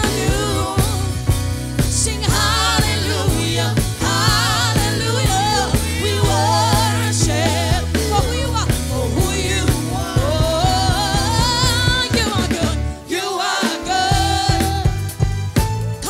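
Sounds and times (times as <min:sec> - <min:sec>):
person singing with vibrato: 0:00.0 - 0:15.2
band with bass and drums: 0:00.0 - 0:16.0.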